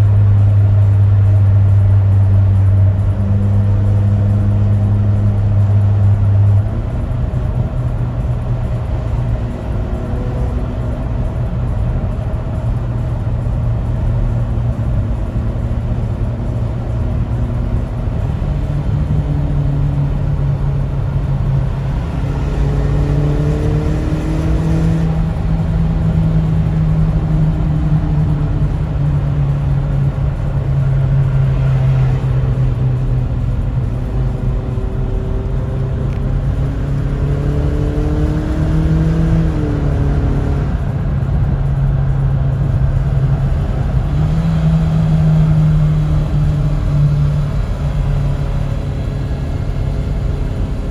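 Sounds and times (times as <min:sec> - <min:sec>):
car exhaust humming: 0:00.0 - 0:50.9.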